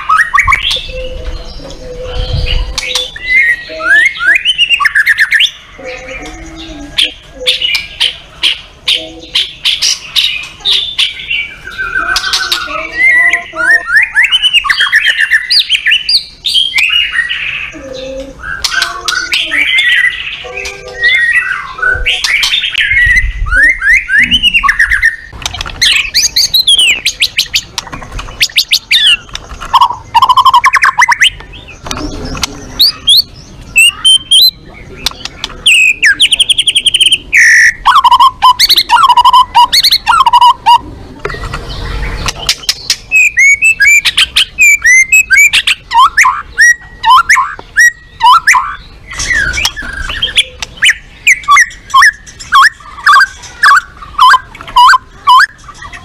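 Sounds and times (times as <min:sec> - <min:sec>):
songbird singing whistles and trills: 0:00.0 - 0:27.7, 0:28.4 - 0:32.0, 0:32.7 - 0:40.9, 0:42.4 - 0:56.0.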